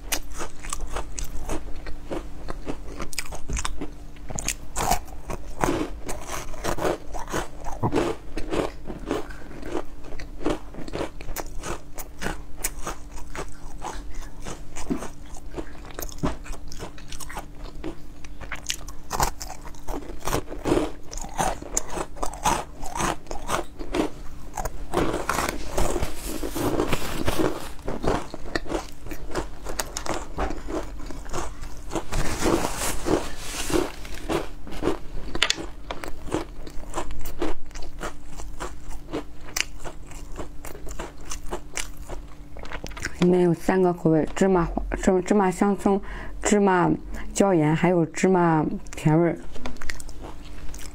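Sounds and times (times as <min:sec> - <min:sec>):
crunching and chewing food: 0:00.0 - 0:43.3, 0:48.8 - 0:50.9.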